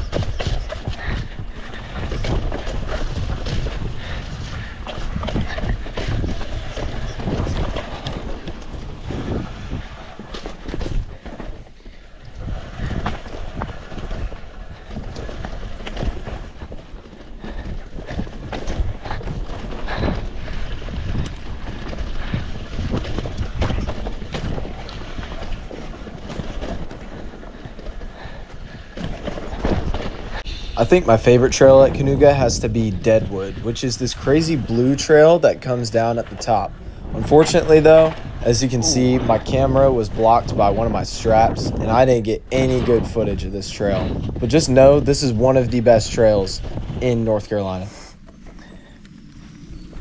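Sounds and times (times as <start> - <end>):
bike tyre noise on mud: 0.0 - 50.0
wind buffeting the microphone: 0.0 - 50.0.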